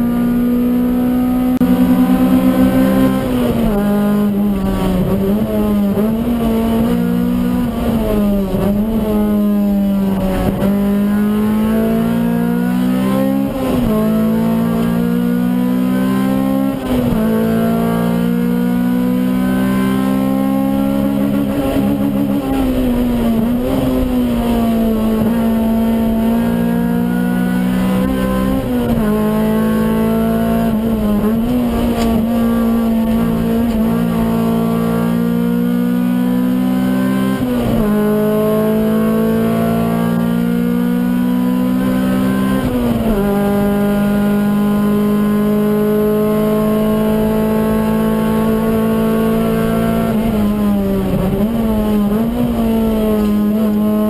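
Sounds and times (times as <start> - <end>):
car engine revving from inside: 0.0 - 54.0.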